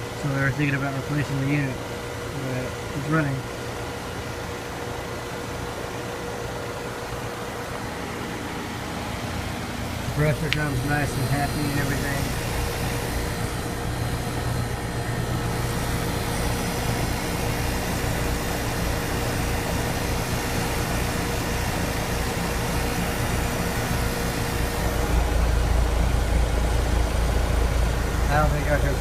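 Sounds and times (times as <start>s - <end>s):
air conditioner humming: 0.0s - 29.0s.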